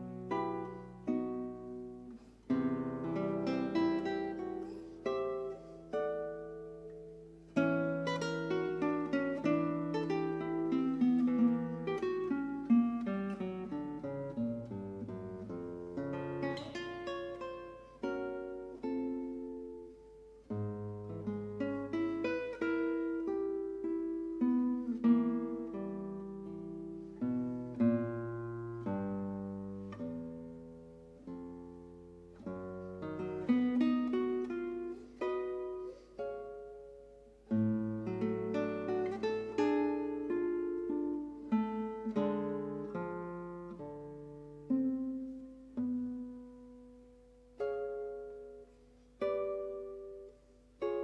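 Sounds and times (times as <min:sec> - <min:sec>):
solo acoustic guitar: 0:00.0 - 0:51.0.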